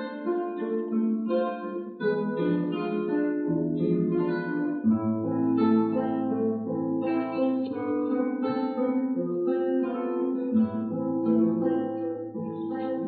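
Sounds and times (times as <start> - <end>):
classical guitars playing melody: 0.0 - 13.0.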